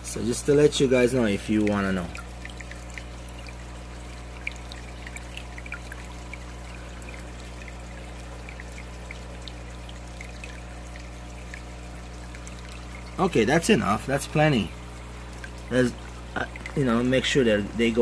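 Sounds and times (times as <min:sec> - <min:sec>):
steady low hum: 0:00.0 - 0:18.0
water trickling: 0:00.0 - 0:18.0.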